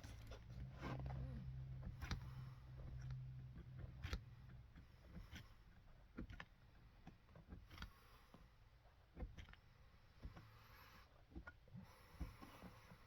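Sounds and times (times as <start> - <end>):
light clicks and taps on boot: 0.0 - 10.6.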